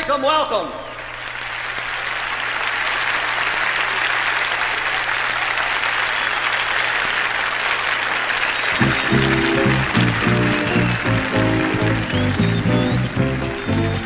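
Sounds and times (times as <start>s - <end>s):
audience applauding: 0.9s - 14.0s.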